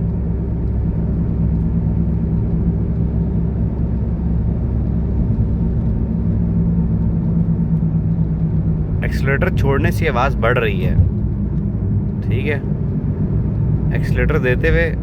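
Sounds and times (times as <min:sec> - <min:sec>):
tyre and road noise: 0:00.0 - 0:15.0.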